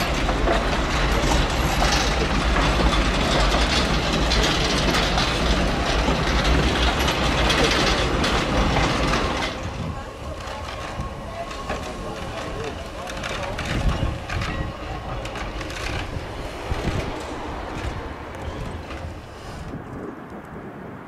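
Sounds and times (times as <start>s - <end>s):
train wheels clattering on rails: 0.0s - 19.8s.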